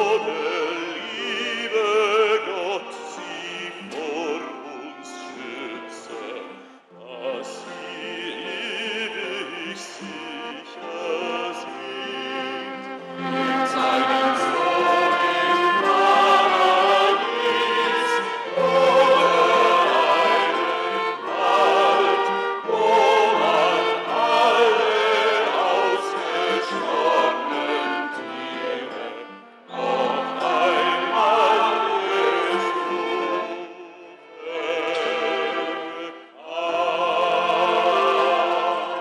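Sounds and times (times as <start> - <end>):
vocal ensemble singing in parts: 0.0 - 39.0.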